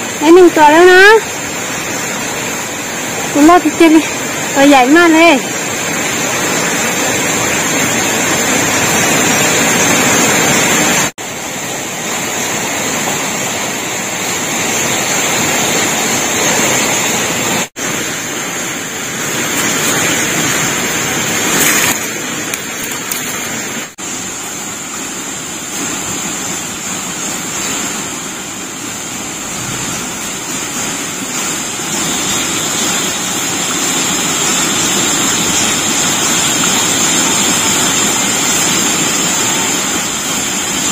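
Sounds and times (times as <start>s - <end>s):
forest stream rushing: 0.0s - 40.9s.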